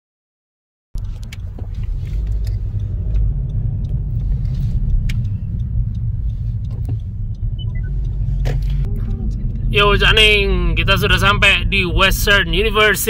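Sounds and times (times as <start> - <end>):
car engine and road rumble: 1.0 - 13.0.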